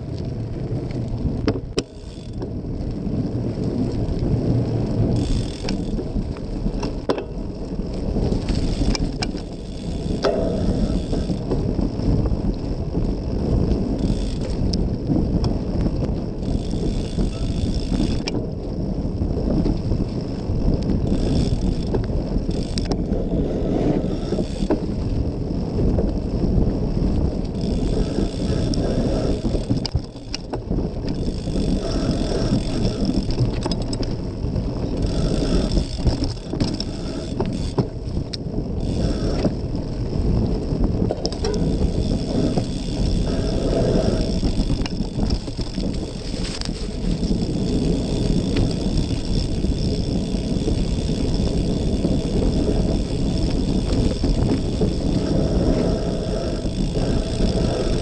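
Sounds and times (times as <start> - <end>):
bike clicks and rattles: 0.0 - 58.0
bike tyres rumbling: 0.0 - 58.0
wind on microphone: 0.0 - 58.0.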